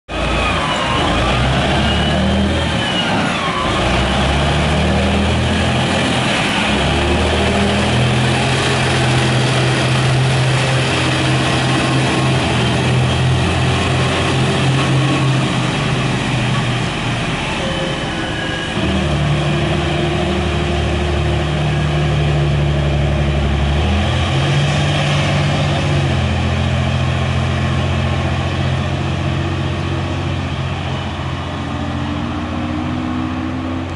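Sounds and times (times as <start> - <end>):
dump truck diesel engine driving off: 0.1 - 33.9.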